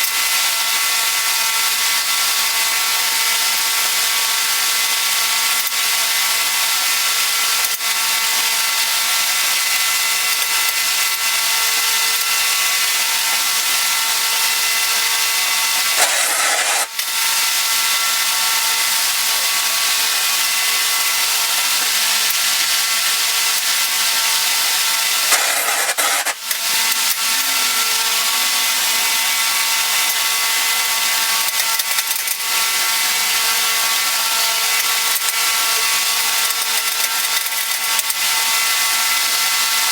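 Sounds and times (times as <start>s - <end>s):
power tool running with hiss: 0.0s - 39.9s.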